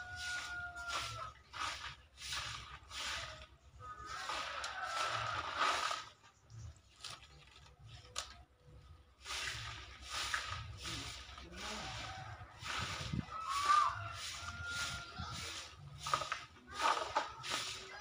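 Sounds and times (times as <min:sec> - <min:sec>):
broom sweeping dirt: 0:00.0 - 0:18.0.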